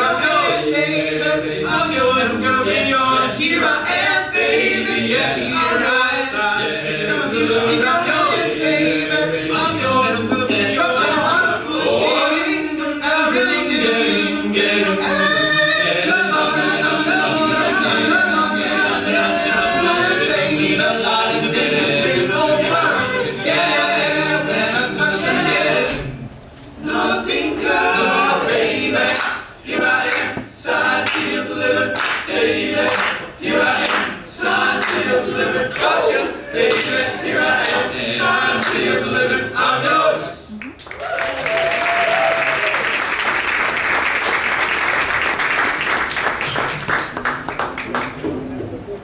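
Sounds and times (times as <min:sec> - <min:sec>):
male a cappella group singing: 0:00.0 - 0:40.6.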